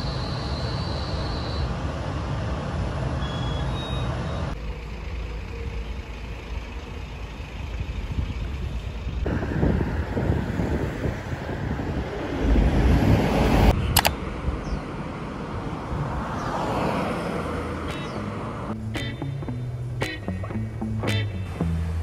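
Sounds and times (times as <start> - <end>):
train passing with low rumble: 1.5 - 21.0.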